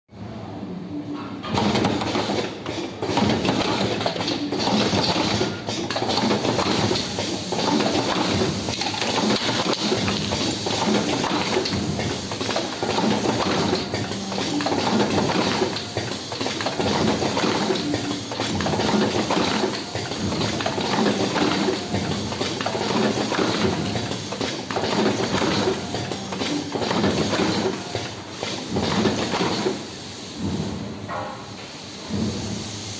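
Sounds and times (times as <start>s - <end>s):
packing machine clattering: 1.4s - 30.6s.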